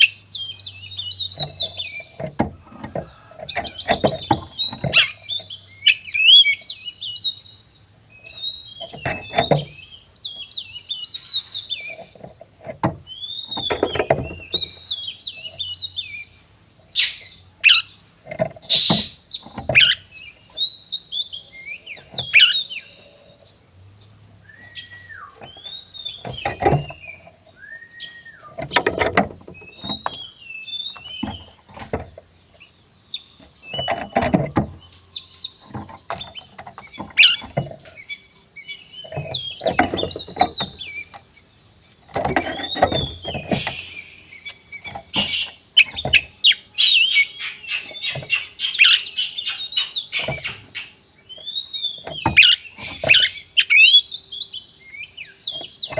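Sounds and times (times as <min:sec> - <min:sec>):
bird singing whistles and chatter: 0:00.0 - 0:02.3, 0:03.5 - 0:12.3, 0:13.0 - 0:18.0, 0:18.6 - 0:23.2, 0:24.4 - 0:32.0, 0:32.6 - 0:41.2, 0:42.0 - 0:55.9.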